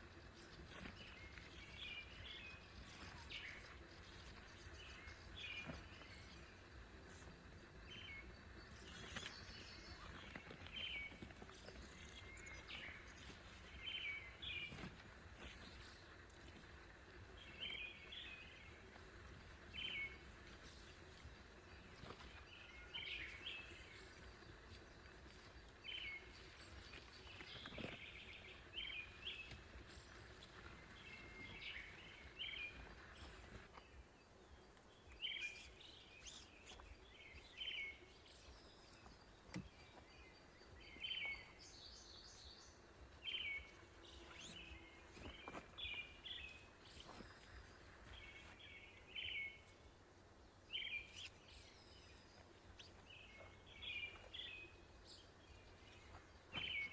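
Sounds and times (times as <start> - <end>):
faint bird chirping: 0.0 - 56.9.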